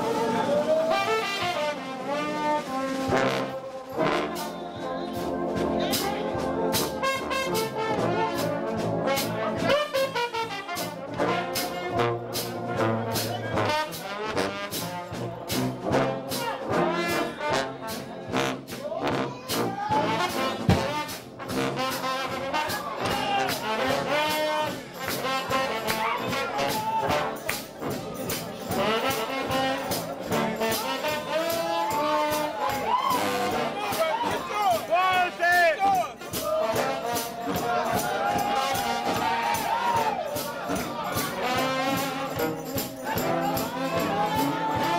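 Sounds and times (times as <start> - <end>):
trombone section: 0.0 - 44.9
trumpet: 0.0 - 44.9
percussive beat: 3.0 - 44.9.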